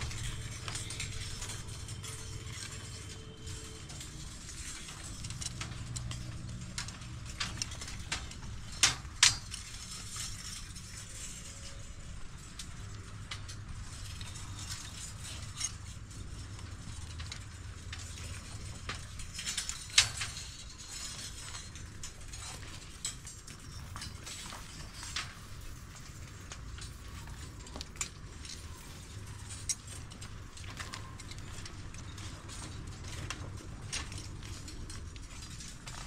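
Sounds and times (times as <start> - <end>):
construction clicks and knocks: 0.0 - 36.0
steady low hum: 0.0 - 36.0.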